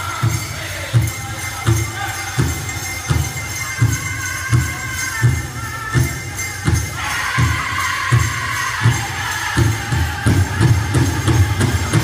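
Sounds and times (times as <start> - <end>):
big drum beat: 0.0 - 12.0
jingling bells: 0.0 - 12.0.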